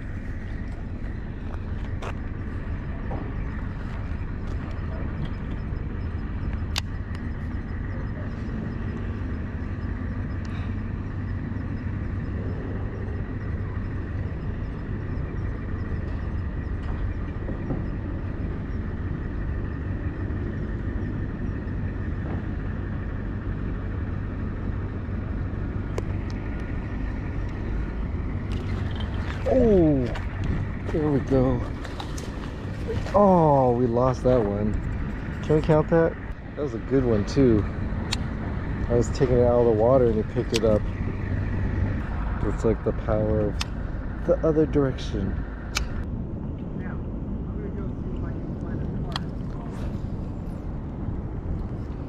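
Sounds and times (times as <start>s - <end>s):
outdoor rumble and hiss: 0.0s - 52.0s.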